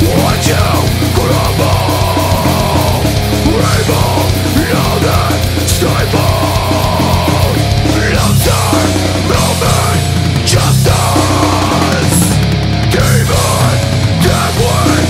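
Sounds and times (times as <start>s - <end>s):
loud heavy metal music: 0.0s - 15.0s.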